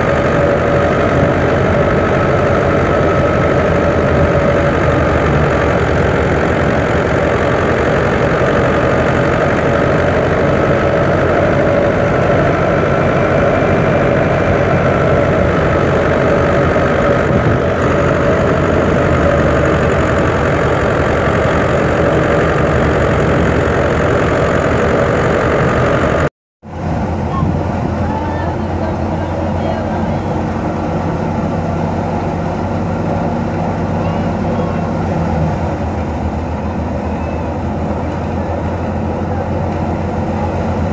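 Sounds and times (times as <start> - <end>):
thresher machinery hum: 0.0 - 40.9
tractor diesel engine running: 0.0 - 40.9.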